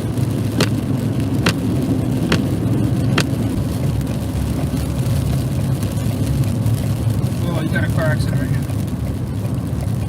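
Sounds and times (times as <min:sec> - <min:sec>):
vehicle engine and road rumble: 0:00.0 - 0:10.0.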